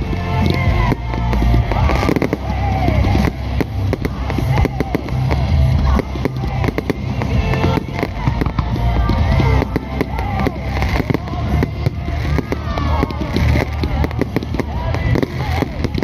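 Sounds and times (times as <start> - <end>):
fireworks banging and crackling: 0.0 - 16.0
music with heavy bass: 0.0 - 16.0.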